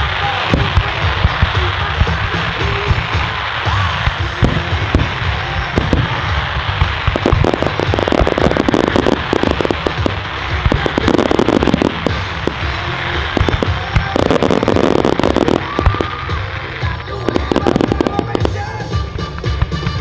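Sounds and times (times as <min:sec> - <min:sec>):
fireworks cracking and popping: 0:00.0 - 0:20.0
music playing: 0:00.0 - 0:20.0.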